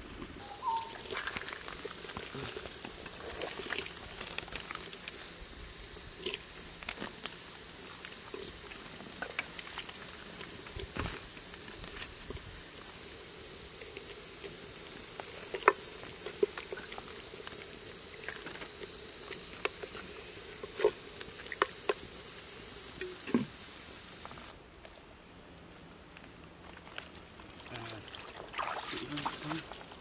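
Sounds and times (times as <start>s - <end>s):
insects buzzing: 0.4s - 30.0s.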